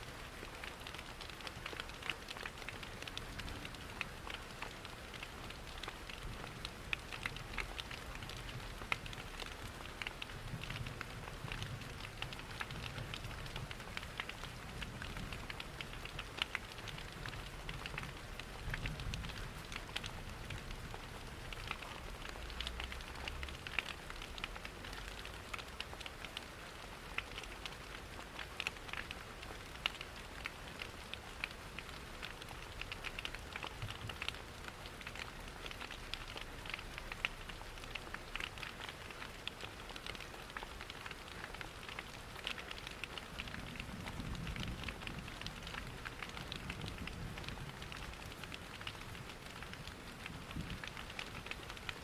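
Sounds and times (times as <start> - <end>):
rain pattering on windows: 0.0 - 52.0
crackling fireplace: 0.2 - 52.0.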